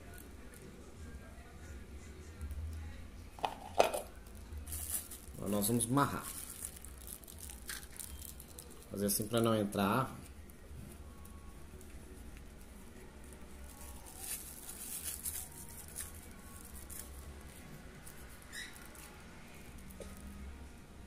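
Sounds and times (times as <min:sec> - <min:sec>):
low steady hum: 0:00.0 - 0:21.0
plastic bag crinkling: 0:03.5 - 0:20.4.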